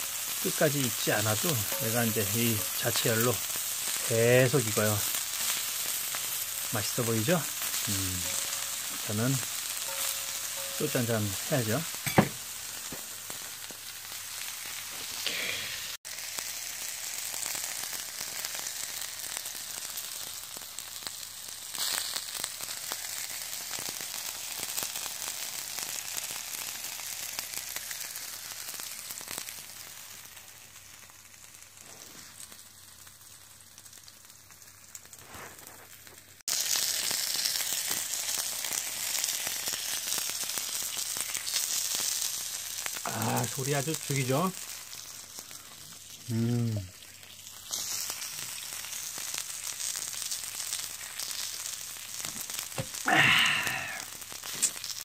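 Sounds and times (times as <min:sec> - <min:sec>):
meat sizzling on a griddle: 0:00.0 - 0:55.0.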